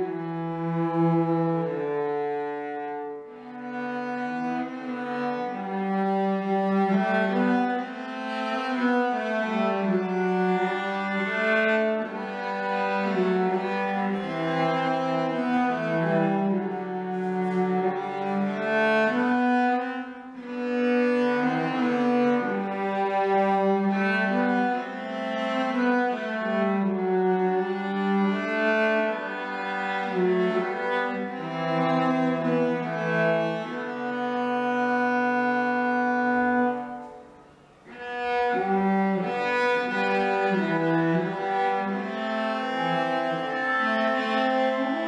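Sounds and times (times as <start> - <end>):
cellos playing bowed duet: 0.0 - 45.0.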